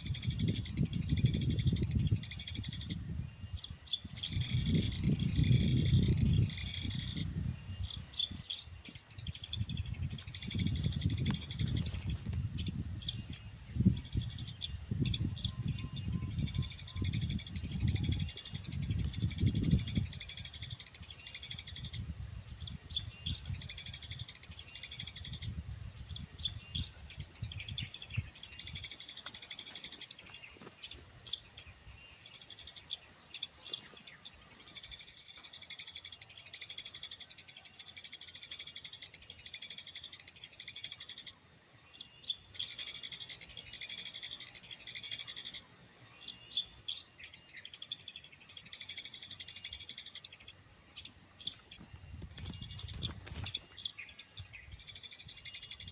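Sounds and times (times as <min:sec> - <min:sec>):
high-pitched insect drone: 0:00.0 - 0:55.9
small birds chirping: 0:00.0 - 0:55.9.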